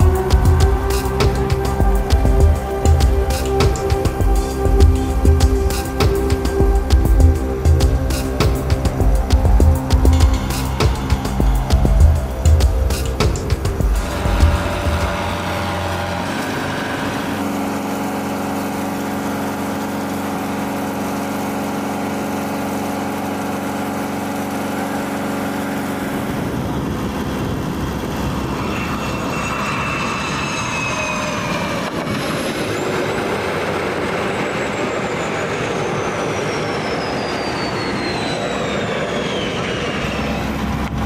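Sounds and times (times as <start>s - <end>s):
engine humming: 0.0s - 41.0s
high whine sliding lower: 0.0s - 41.0s
jet engines roaring: 0.0s - 41.0s.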